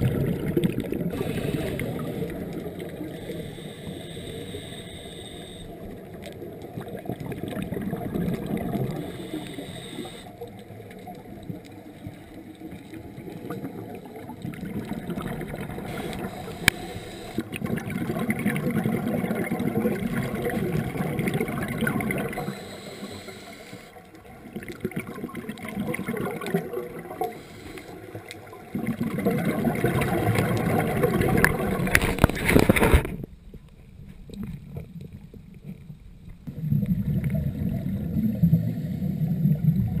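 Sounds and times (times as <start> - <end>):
scuba regulator bubbles underwater: 0.0 - 40.0.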